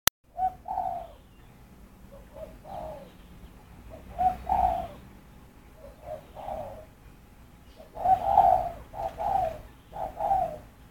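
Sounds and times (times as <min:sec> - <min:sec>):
bird calling: 0:00.3 - 0:10.9.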